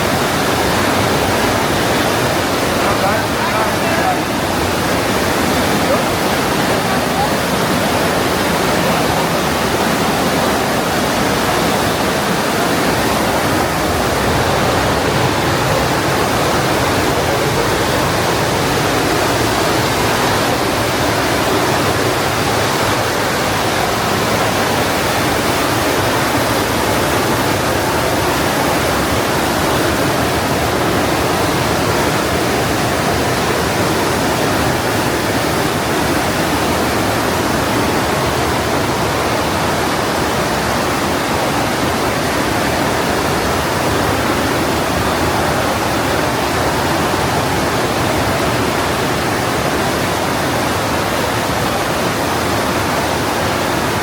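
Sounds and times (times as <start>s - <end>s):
whitewater rushing: 0.0s - 54.0s.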